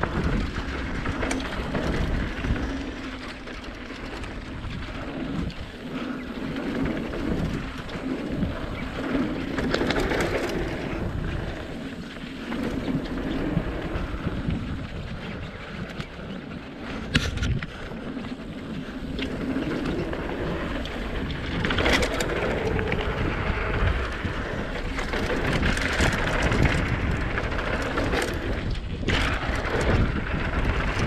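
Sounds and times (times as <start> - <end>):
bike clicks and rattles: 0.0 - 31.0
bike tyres rolling over dirt: 0.0 - 31.0
wind rumbling on microphone: 0.0 - 31.0.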